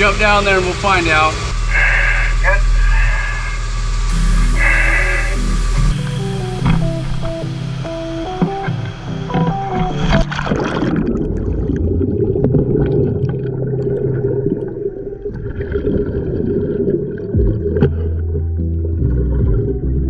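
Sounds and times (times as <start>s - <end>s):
steady low drone: 0.0s - 20.0s
diver plunging into water: 1.6s - 19.9s
underwater bubbling and gurgling: 1.6s - 20.0s.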